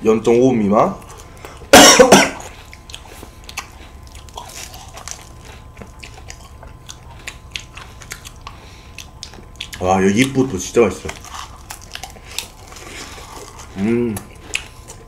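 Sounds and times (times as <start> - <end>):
crunchy chewing with clicks: 0.3 - 1.7, 2.3 - 15.0
crisp crunch of biting ice cream cone: 2.5 - 15.0.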